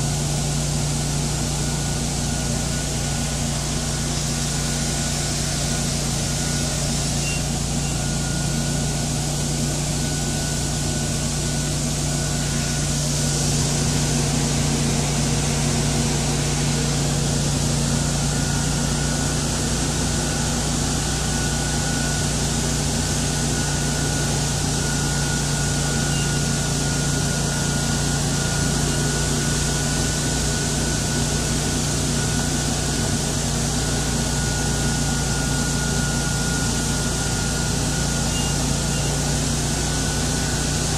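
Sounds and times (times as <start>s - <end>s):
leaf blower engine drone: 0.0s - 40.9s.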